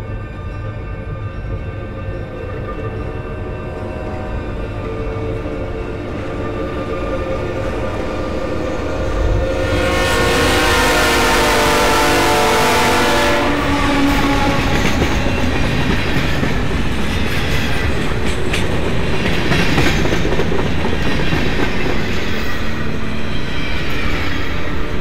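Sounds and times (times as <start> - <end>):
music: 0.0 - 9.8, 14.6 - 25.0
train passing: 0.0 - 25.0.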